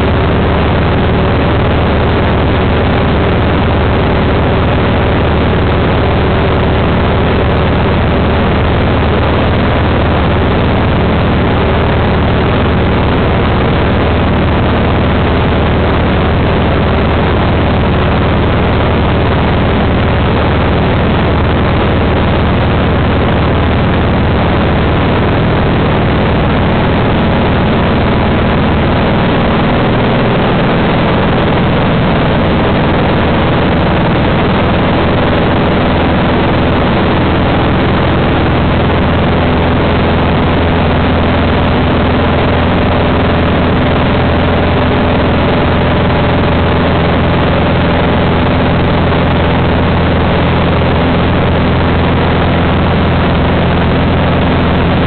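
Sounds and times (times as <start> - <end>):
aircraft engine and propeller droning: 0.0 - 55.0
rushing air noise: 0.0 - 55.0.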